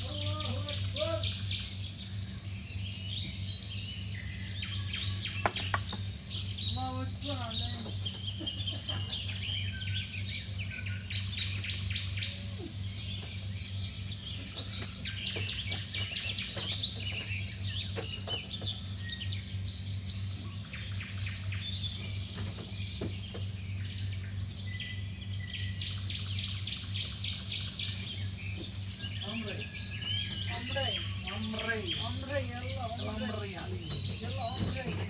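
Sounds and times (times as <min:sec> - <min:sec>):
small birds chirping: 0:00.0 - 0:35.0
steady low hum: 0:00.0 - 0:35.0.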